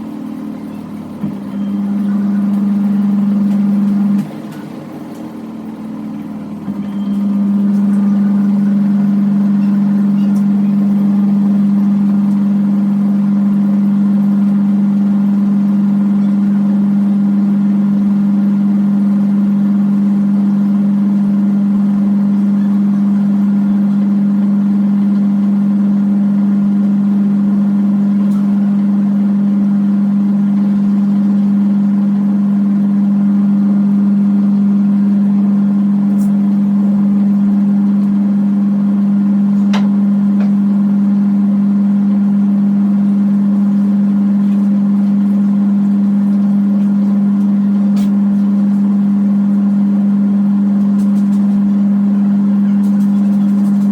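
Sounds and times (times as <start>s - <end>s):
washing machine spin cycle hum: 0.0s - 53.9s.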